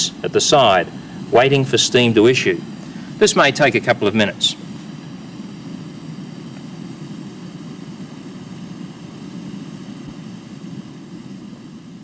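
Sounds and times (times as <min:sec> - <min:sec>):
gas burner flame rushing: 0:00.0 - 0:12.0.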